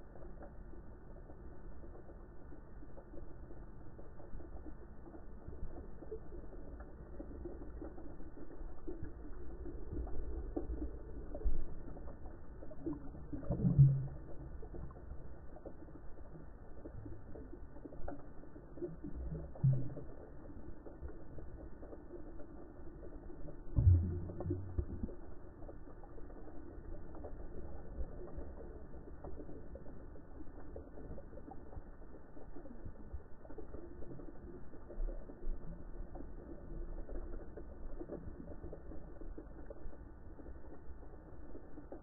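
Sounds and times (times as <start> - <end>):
small crackling clicks: 0.0 - 42.0
underwater rumble of moving water: 0.0 - 42.0.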